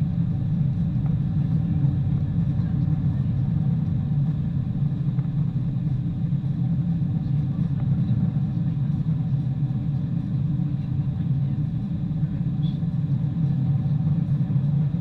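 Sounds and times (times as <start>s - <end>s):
airliner low rumble: 0.0s - 15.0s.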